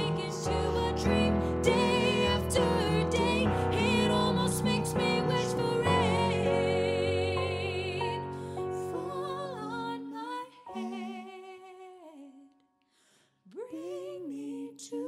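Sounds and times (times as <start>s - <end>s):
woman and man singing wordless harmony: 0.0s - 12.5s, 13.5s - 15.0s.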